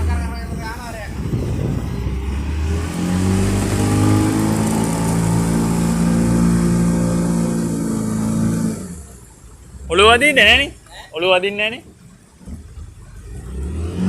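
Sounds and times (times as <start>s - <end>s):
boat engine: 0.0s - 14.0s.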